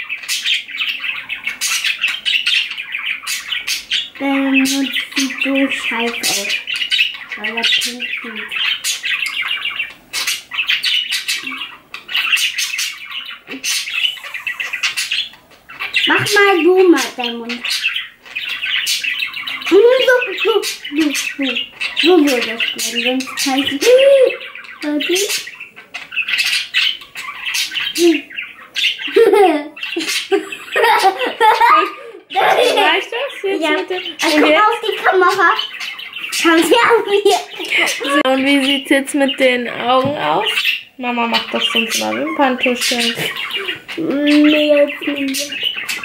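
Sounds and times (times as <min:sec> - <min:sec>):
budgerigars chirping and warbling: 0:00.0 - 0:46.0.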